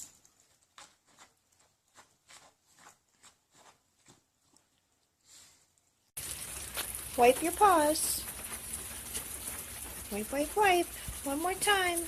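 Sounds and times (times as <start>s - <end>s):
dog paws scraping on a mat: 0.0s - 4.8s, 6.2s - 12.0s.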